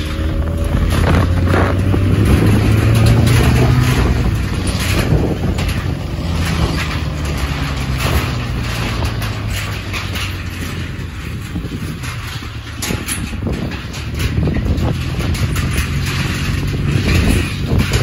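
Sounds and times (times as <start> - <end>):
motorbike engine running: 0.0 - 18.0
short rattles and knocks: 0.0 - 18.0.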